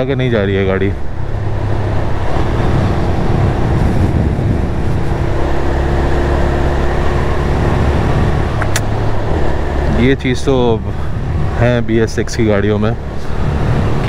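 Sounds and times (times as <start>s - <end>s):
wind and road noise: 0.0s - 14.0s
motorcycle engine running: 0.9s - 14.0s.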